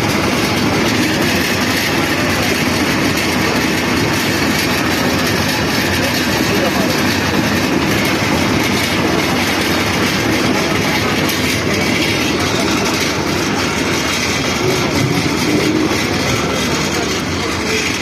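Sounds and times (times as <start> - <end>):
construction machinery clattering: 0.0 - 18.0.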